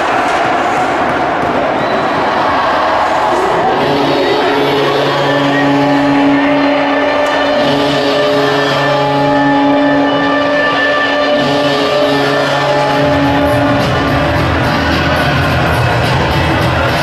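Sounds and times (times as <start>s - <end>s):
music over loudspeakers: 3.0s - 17.0s.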